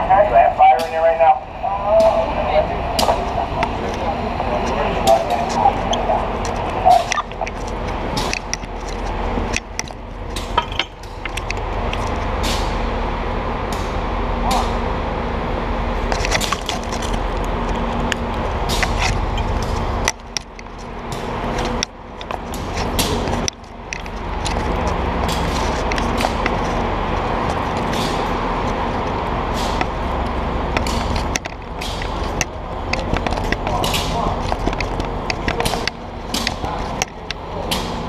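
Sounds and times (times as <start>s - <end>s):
low mechanical hum: 0.0s - 38.0s
gear clicks and knocks while walking: 3.0s - 12.6s, 16.0s - 38.0s.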